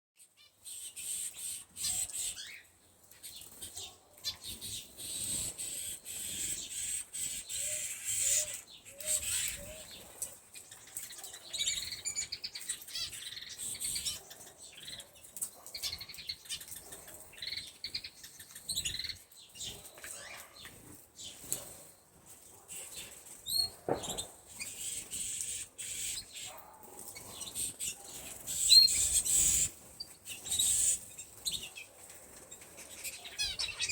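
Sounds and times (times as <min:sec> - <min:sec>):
canaries chirping and singing: 0:00.8 - 0:33.9.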